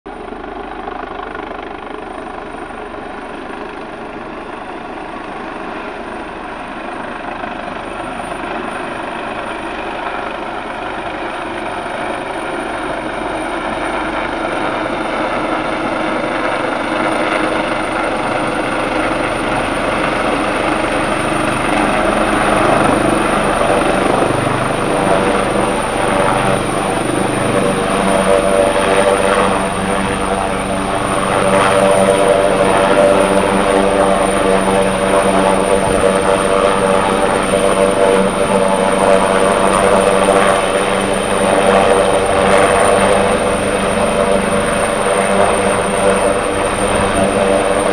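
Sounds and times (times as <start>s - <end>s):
helicopter rotor and engine: 0.1s - 47.9s.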